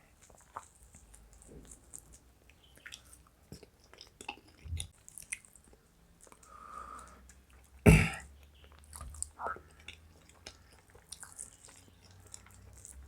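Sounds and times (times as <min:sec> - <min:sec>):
chewing soft food: 0:00.0 - 0:13.0.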